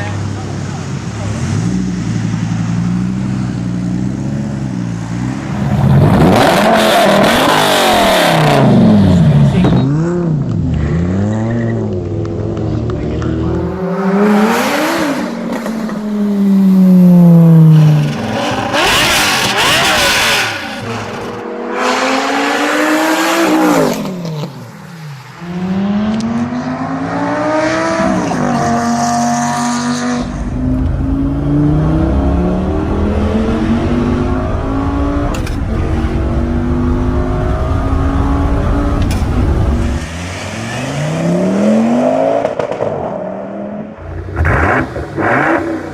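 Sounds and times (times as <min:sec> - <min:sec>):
car engine revving and accelerating: 0:00.0 - 0:45.9.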